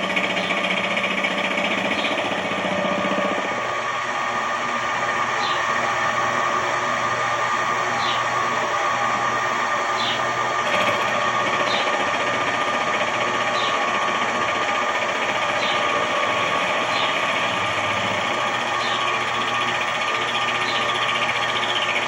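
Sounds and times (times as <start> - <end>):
electric motor and gear whine: 0.0 - 22.0.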